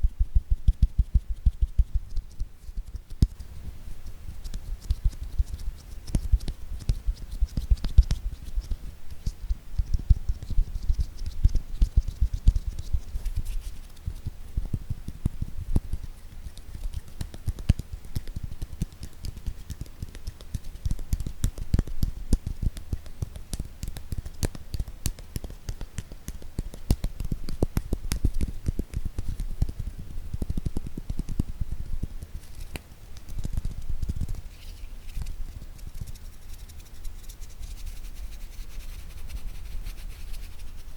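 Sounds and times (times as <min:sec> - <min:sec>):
fingers tapping on objects: 0:04.3 - 0:38.0.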